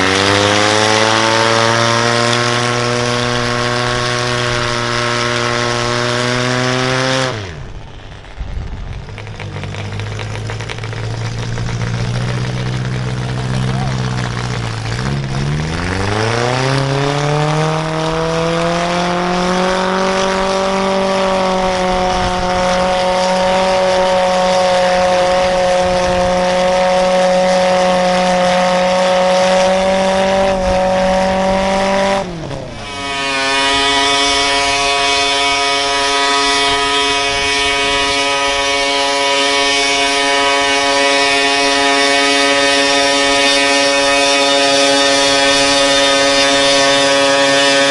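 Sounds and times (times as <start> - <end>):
vehicle engine revving under load: 0.0 - 47.9.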